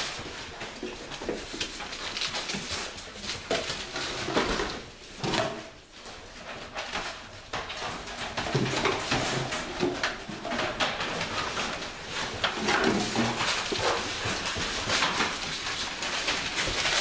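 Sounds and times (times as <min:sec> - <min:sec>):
dogs clattering and knocking: 0:00.0 - 0:17.0.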